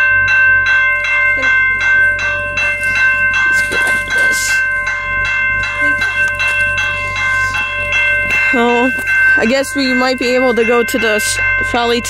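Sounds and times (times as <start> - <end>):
crossing warning bell ringing: 0.0 - 12.0.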